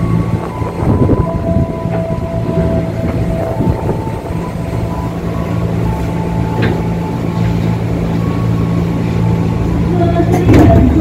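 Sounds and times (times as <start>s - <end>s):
faint high whining tones: 0.0s - 11.0s
train car low hum: 0.0s - 11.0s.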